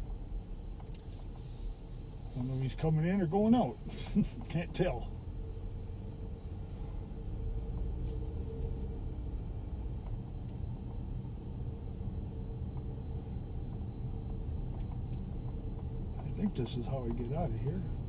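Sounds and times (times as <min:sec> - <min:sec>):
car cabin engine and tyre rumble: 0:00.0 - 0:18.0.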